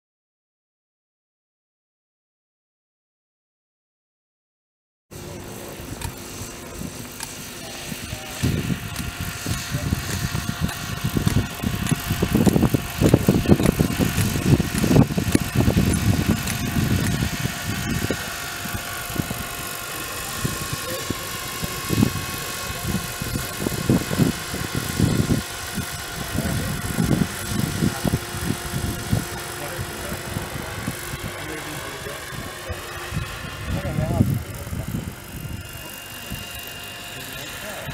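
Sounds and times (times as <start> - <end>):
model helicopter whine: 5.1 - 37.9.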